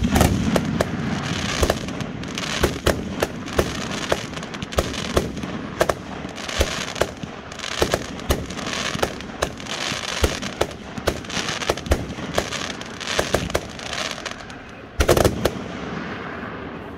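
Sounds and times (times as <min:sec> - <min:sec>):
hissing crackling rush: 0:00.0 - 0:16.9
loud firework bangs: 0:00.0 - 0:16.9.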